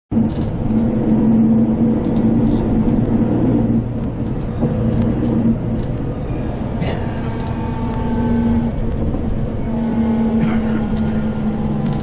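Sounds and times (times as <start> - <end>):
bus engine and road drone: 0.1 - 12.0.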